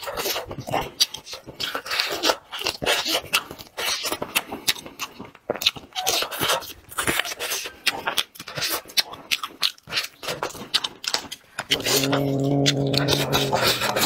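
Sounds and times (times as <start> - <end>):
chewing and lip-smacking: 0.0 - 14.0.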